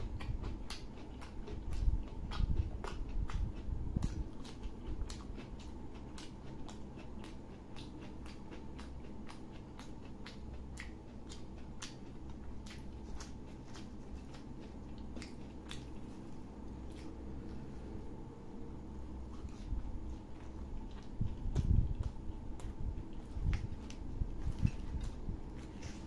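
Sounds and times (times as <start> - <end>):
chewing mouth clicks: 0.0 - 17.7, 19.2 - 26.0
steady low hum: 0.0 - 26.0.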